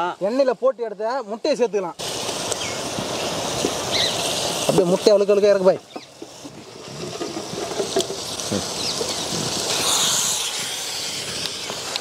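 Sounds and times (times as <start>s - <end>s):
gravy sizzling and bubbling in a pan: 2.0s - 12.0s.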